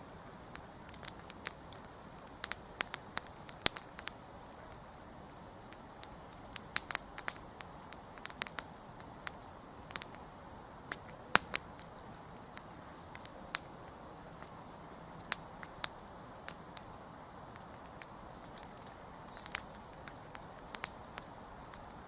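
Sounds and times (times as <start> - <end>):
campfire crackling and popping: 0.0 - 22.0
faint steady hiss: 0.0 - 22.0.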